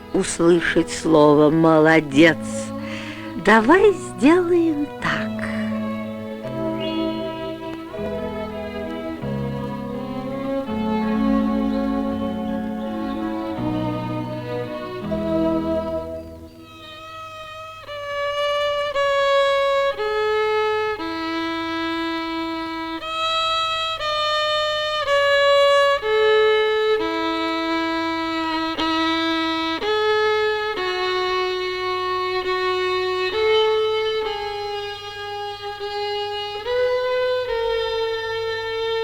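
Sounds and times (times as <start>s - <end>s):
solo violin slow melody: 0.0s - 39.0s.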